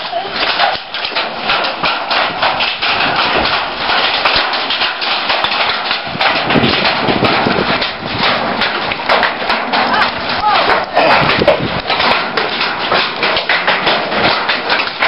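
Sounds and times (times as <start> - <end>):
hailstones clattering on roof: 0.0 - 15.0.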